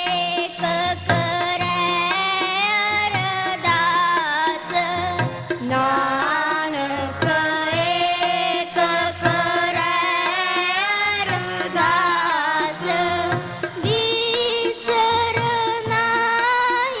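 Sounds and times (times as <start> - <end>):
child singing a hymn: 0.0 - 17.0
harmonium: 0.0 - 17.0
tabla rhythm: 0.0 - 17.0.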